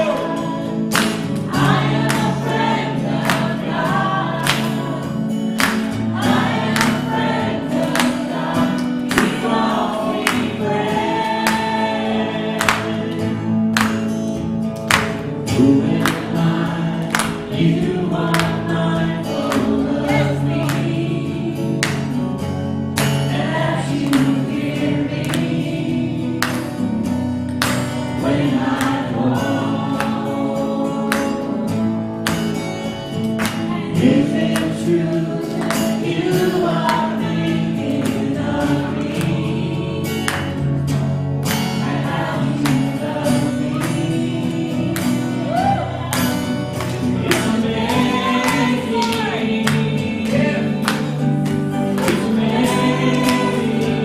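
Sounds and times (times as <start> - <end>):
choir singing: 0.0 - 13.7, 15.4 - 22.2, 23.2 - 26.7, 28.1 - 32.3, 33.6 - 40.8, 41.6 - 46.2, 47.0 - 54.0.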